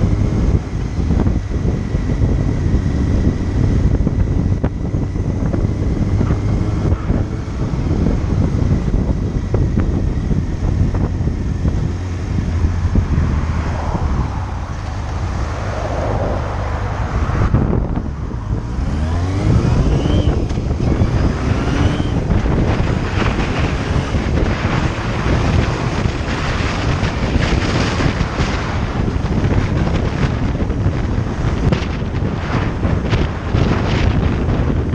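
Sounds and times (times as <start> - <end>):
motorcycle engine running: 0.0 - 15.8, 16.6 - 34.9
wind buffeting microphone: 0.0 - 34.9.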